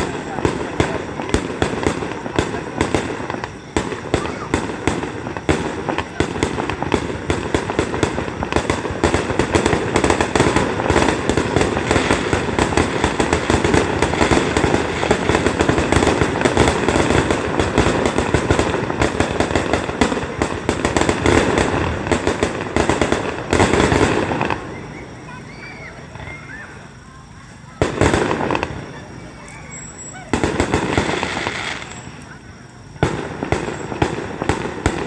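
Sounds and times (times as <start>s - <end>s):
fireworks bursting and crackling: 0.0s - 35.0s.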